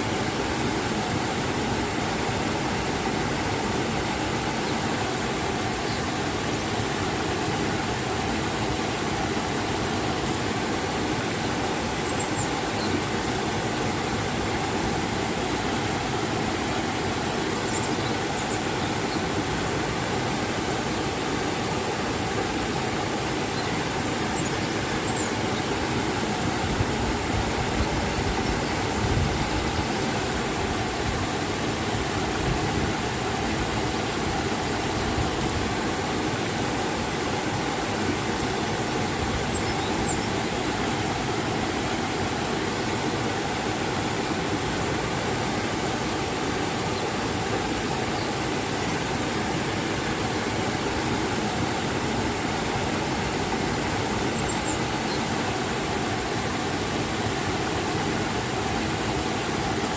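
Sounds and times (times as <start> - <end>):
river and waterfall rushing: 0.0 - 59.9.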